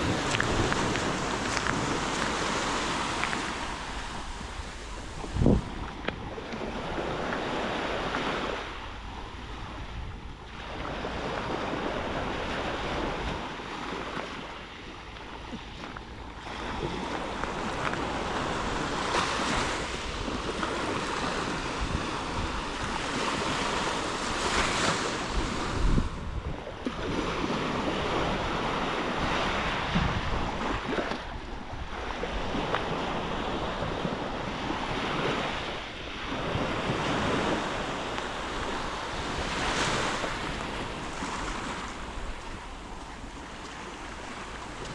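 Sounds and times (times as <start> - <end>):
wind buffeting microphone: 0.0 - 14.2, 15.5 - 44.9
waves breaking on beach: 0.0 - 44.9.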